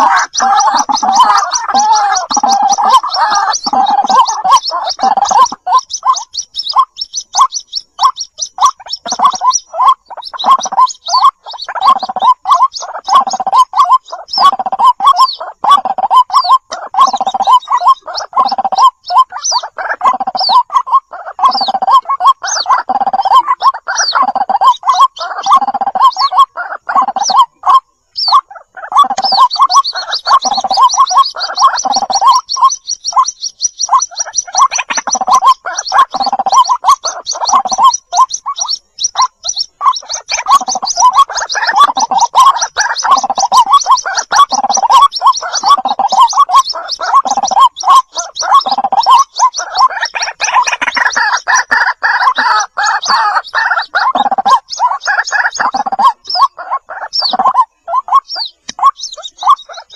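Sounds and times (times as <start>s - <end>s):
chicks short repeated calls: 0.0s - 59.9s.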